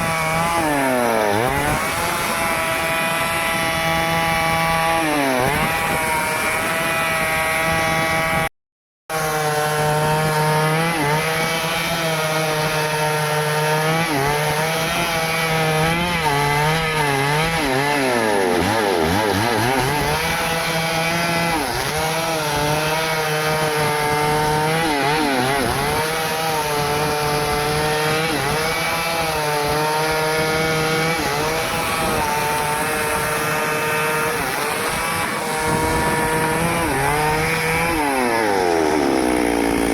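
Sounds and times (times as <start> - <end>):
chainsaw cutting wood: 0.0 - 8.5, 9.1 - 39.9.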